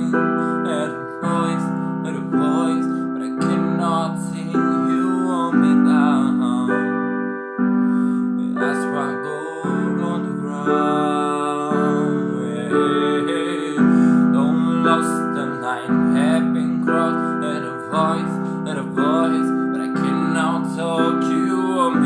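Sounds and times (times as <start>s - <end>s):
piano playing sustained chords: 0.0s - 22.0s.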